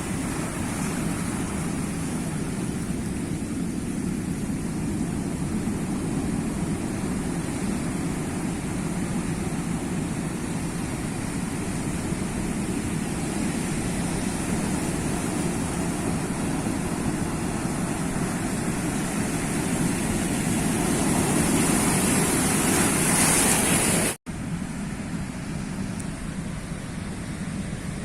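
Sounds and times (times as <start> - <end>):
surf rushing on shore: 0.0 - 28.0.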